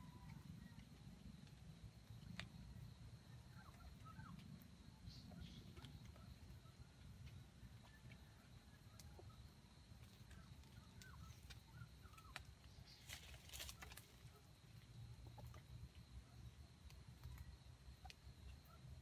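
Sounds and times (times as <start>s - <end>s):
faint bird chirps: 0.0s - 1.3s, 2.2s - 19.0s.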